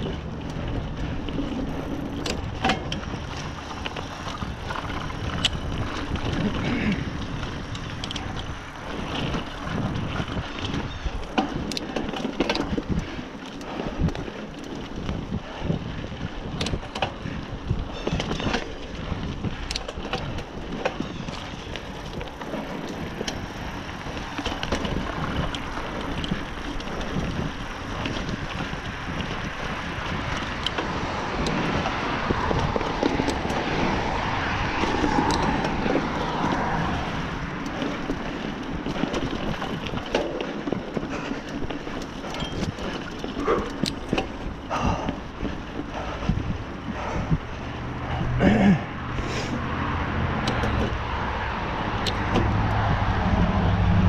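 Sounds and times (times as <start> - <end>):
bike clicks and rattles: 0.0 - 54.0
bike tyre rumble on trail: 0.0 - 54.0
wind on microphone: 0.0 - 54.0.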